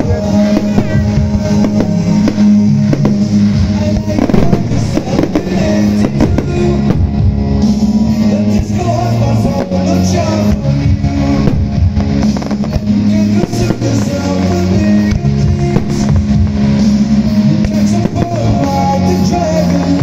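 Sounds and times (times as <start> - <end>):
fireworks popping: 0.0 - 20.0
loud rock music with singing: 0.0 - 20.0.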